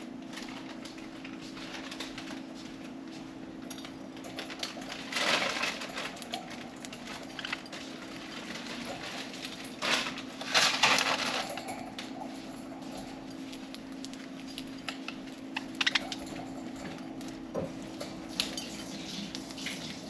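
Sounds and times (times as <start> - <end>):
budgies pecking and rustling: 0.0 - 20.0
steady low hum: 0.0 - 20.0.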